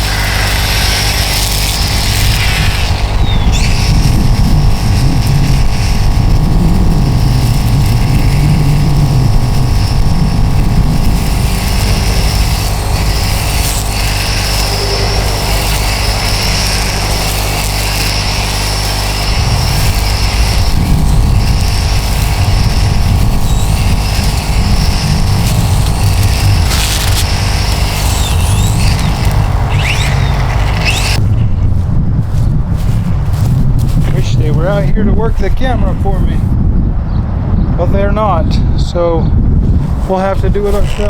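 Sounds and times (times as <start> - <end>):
string trimmer running: 0.0 - 34.8.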